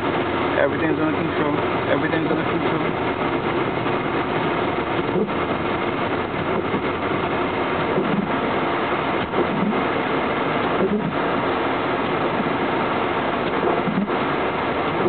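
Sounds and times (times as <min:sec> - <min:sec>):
car engine: 0:00.0 - 0:15.0
tyres pushing through snow: 0:00.0 - 0:15.0.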